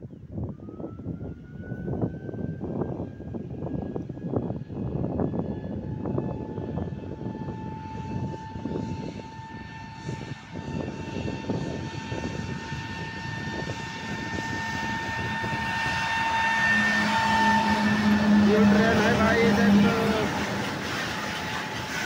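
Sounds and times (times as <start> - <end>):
high engine whine: 0.1 - 22.0
diesel locomotive rumbling: 0.6 - 22.0.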